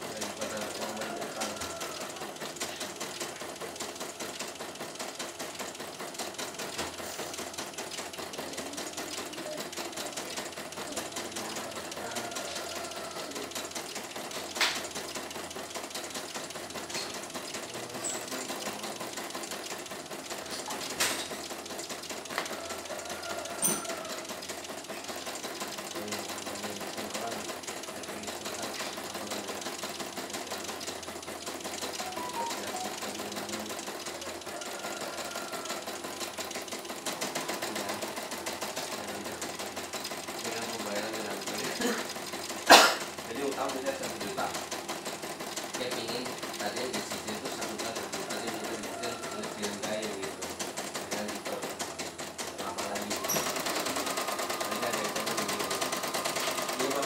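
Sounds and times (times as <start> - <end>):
embroidery machine stitching: 0.0 - 57.0.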